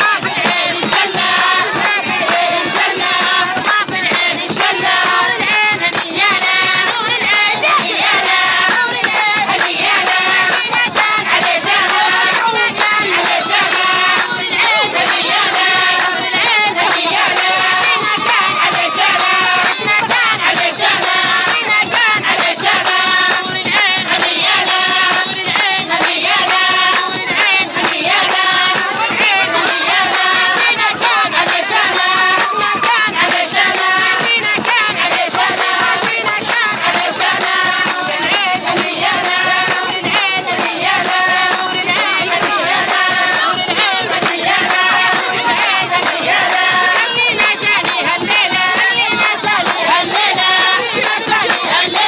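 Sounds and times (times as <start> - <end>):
rhythmic hand clapping: 0.0 - 52.0
women singing together: 0.0 - 52.0.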